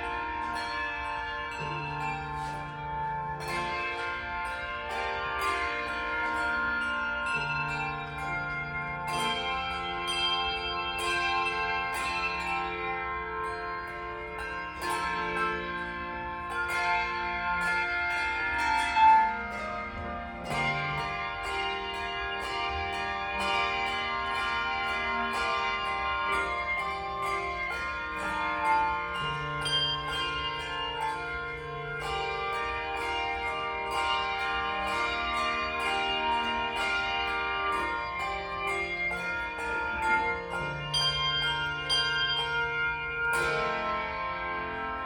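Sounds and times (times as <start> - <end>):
handbells playing a tune: 0.0 - 45.0.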